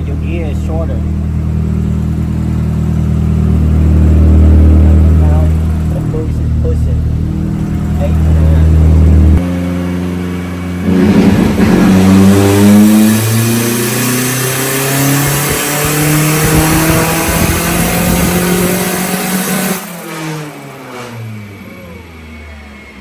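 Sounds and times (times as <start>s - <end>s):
pickup engine revving under boost: 0.0s - 23.0s.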